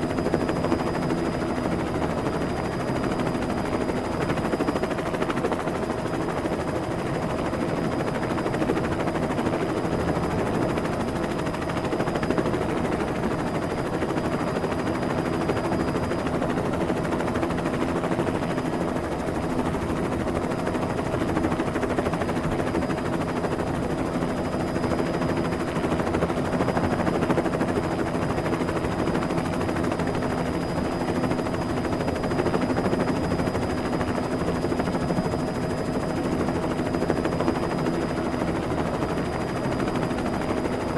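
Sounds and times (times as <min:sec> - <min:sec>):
helicopter rotors and engine: 0:00.0 - 0:40.9.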